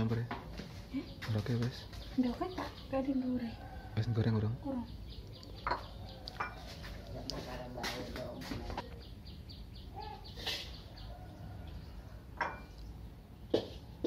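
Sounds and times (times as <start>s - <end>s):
faint bird chirps: 0.1s - 13.0s.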